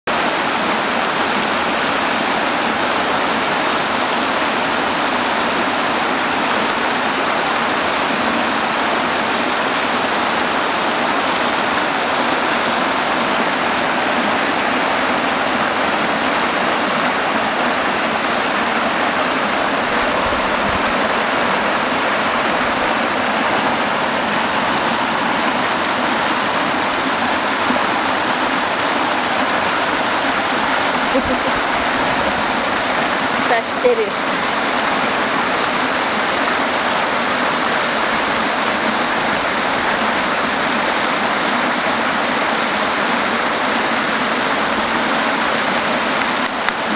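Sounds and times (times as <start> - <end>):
water spilling over a weir: 0.1 - 46.9.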